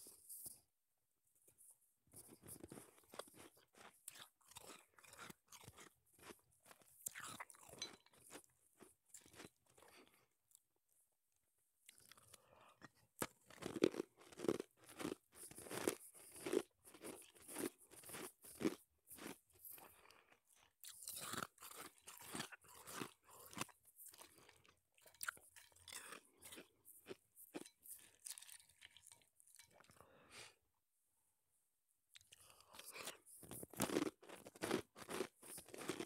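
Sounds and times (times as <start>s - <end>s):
ice being crunched and chewed: 2.2s - 10.2s, 11.9s - 30.0s, 32.2s - 36.0s.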